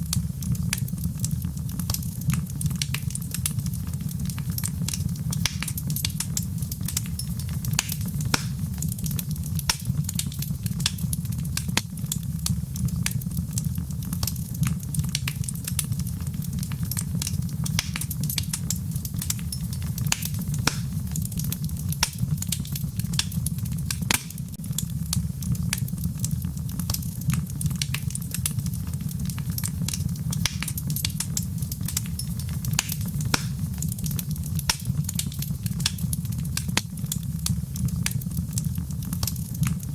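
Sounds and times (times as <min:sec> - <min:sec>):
low rumble of flame: 0:00.0 - 0:39.9
wood fire crackling: 0:00.0 - 0:39.9.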